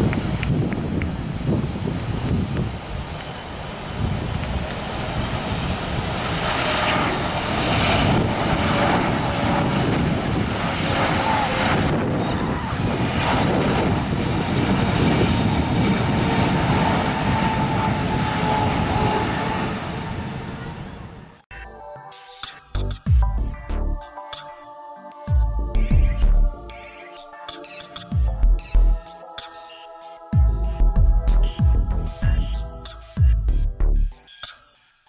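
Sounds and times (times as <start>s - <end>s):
jet engines rumbling with whine: 0.0s - 21.5s, 26.2s - 33.3s.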